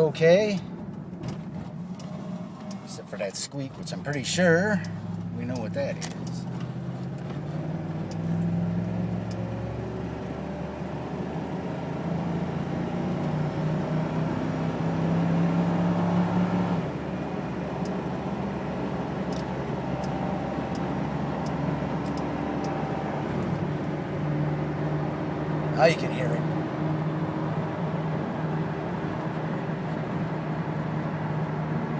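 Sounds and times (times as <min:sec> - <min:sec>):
road and engine noise: 0:00.0 - 0:31.9.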